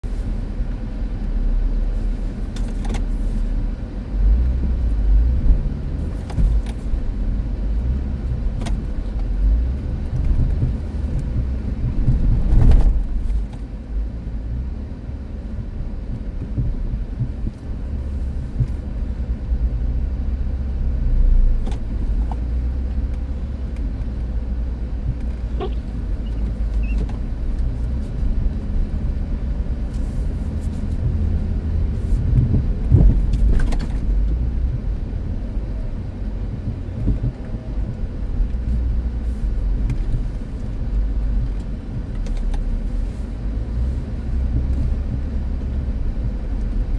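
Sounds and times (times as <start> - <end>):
vehicle rumble: 0.0 - 46.9.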